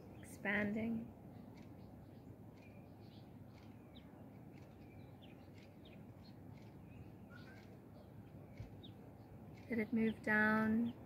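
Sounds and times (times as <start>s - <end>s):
bird chirps and calls: 0.0s - 11.0s
low background hum: 0.0s - 11.0s.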